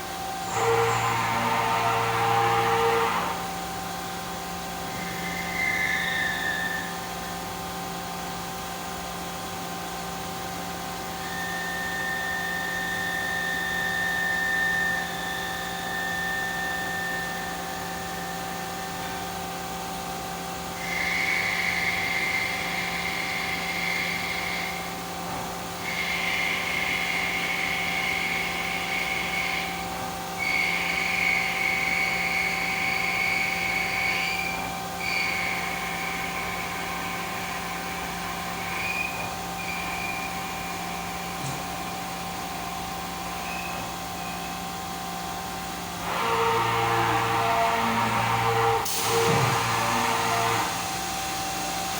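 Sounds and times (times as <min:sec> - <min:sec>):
high machine whine: 0:00.0 - 0:51.9
machine mechanical hum: 0:00.0 - 0:51.9.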